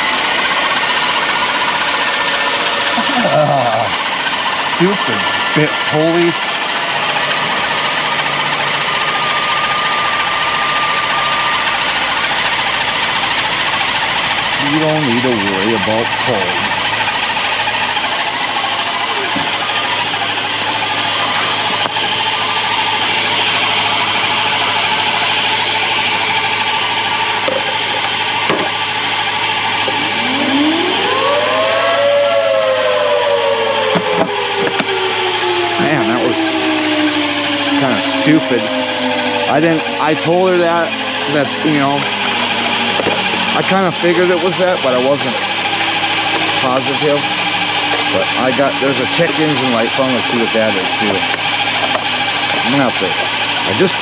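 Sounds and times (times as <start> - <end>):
car engine idling: 0.0 - 54.0
thin steady whine: 0.0 - 54.0.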